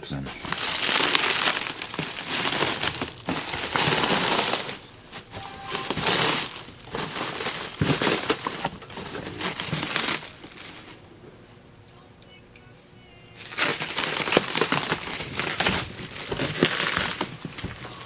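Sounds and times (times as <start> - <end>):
packing material crinkling: 0.1 - 11.1, 13.4 - 18.0.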